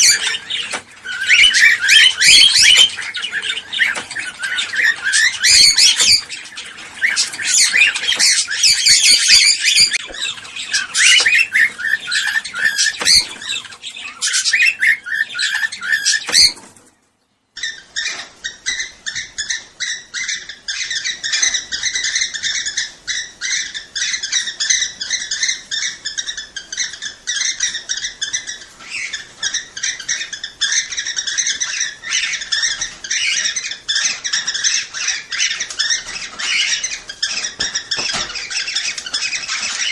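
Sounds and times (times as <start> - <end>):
cockatiels chirping and whistling: 0.0 - 16.9, 17.6 - 39.9.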